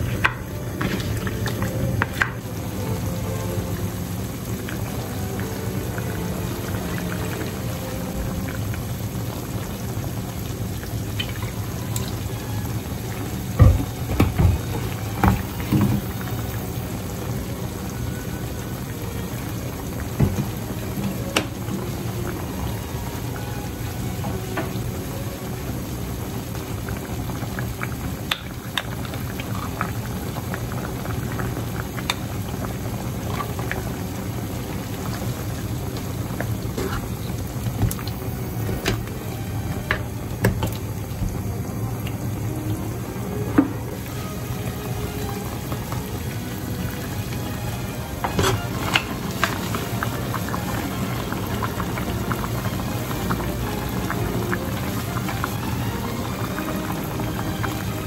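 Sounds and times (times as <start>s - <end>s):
sauce simmering in a frying pan: 0.0s - 58.0s.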